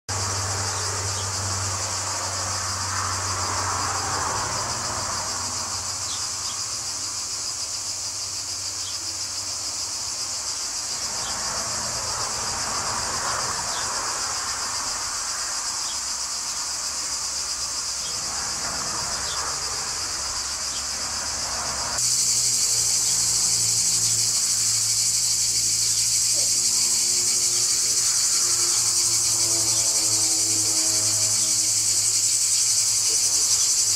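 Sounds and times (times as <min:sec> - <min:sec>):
cicadas droning: 0:00.1 - 0:33.9.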